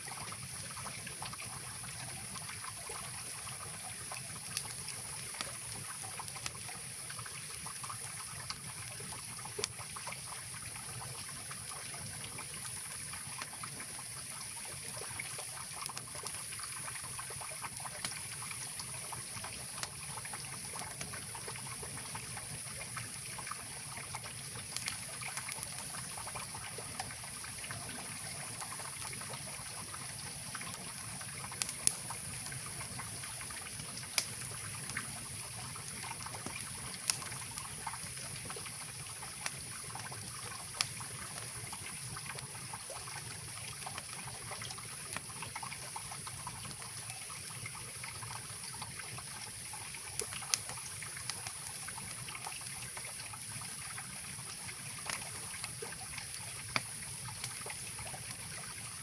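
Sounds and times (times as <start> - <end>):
campfire crackling pops: 0.1 - 58.9.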